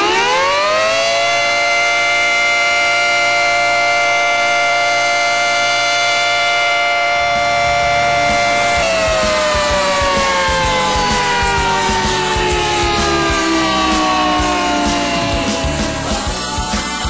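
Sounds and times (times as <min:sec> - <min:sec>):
goal horn siren wailing: 0:00.0 - 0:16.4.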